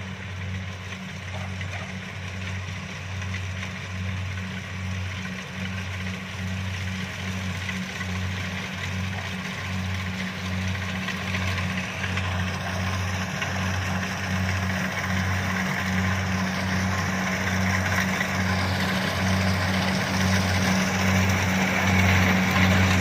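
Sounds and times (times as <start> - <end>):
combine harvester running: 0.0 - 23.0
low regular throb: 0.0 - 23.0.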